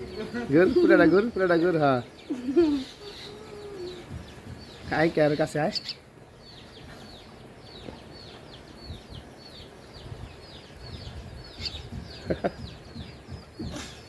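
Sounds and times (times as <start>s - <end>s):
young birds peeping: 0.0s - 14.0s.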